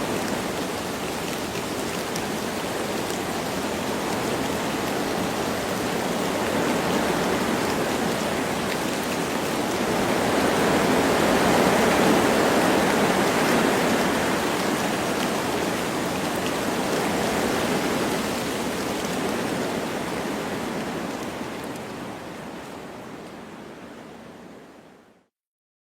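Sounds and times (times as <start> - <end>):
wind blowing through trees: 0.0 - 25.2
light rain: 0.0 - 25.3.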